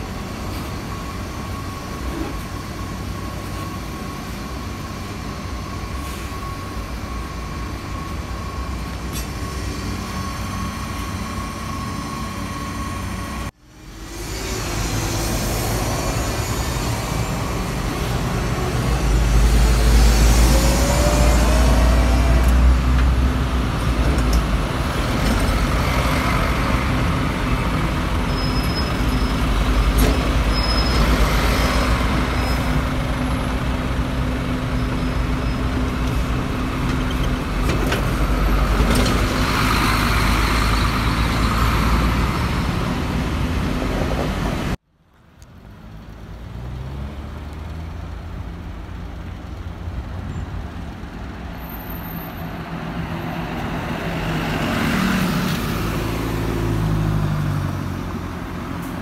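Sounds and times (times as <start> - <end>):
bus engine passing: 0.0 - 44.8, 45.6 - 59.0.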